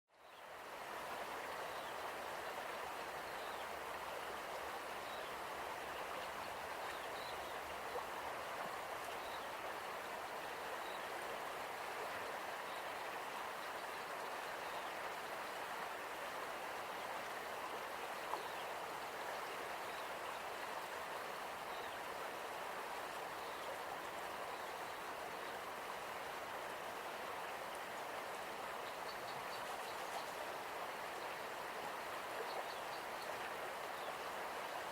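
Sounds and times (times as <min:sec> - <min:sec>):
river water rushing: 0:00.5 - 0:34.9.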